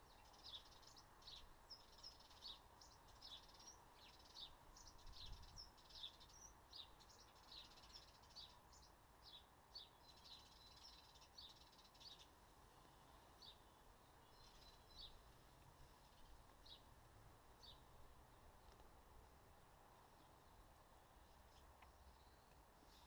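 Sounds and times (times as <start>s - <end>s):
faint small bird chirping: 0.0s - 16.9s, 17.5s - 18.9s, 20.0s - 23.0s.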